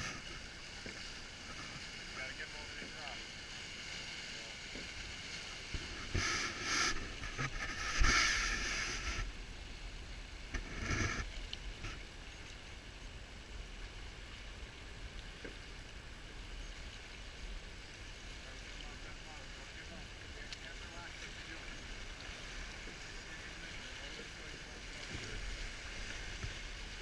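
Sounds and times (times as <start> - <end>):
river water rushing: 0.0 - 27.0
water splashing: 0.0 - 27.0.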